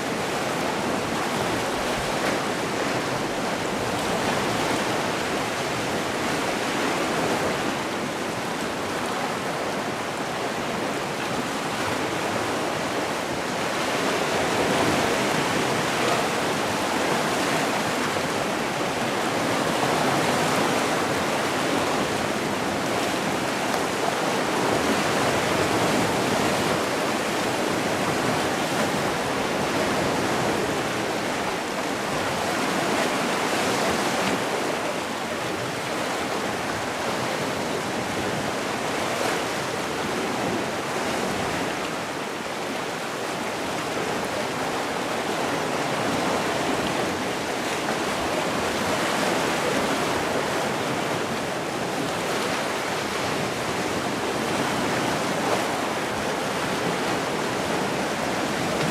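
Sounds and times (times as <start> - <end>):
sea waves washing on shore: 0.0 - 58.9.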